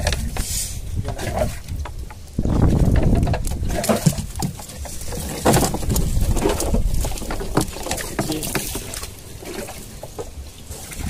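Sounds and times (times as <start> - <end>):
low rumble: 0.0 - 11.0
water splashing: 0.0 - 11.0.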